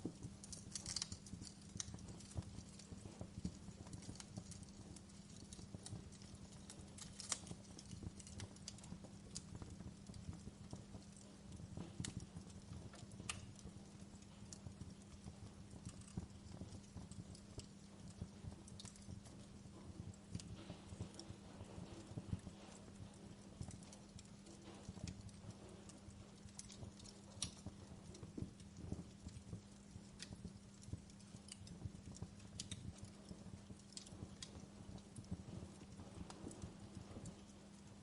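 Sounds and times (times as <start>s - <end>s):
faint steady low hum: 0.0s - 38.0s
logs crackling in fireplace: 0.0s - 38.0s.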